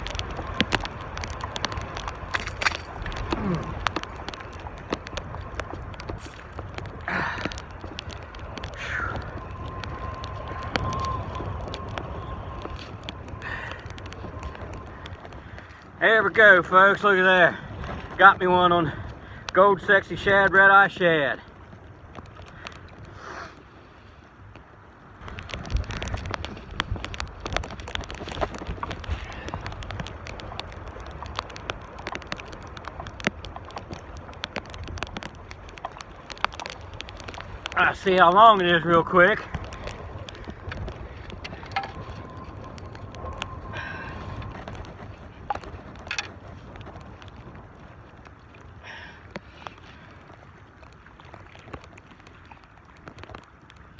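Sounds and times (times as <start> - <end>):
small clicks and crackles: 0.0 - 53.9
wind rumbling on microphone: 0.0 - 53.9.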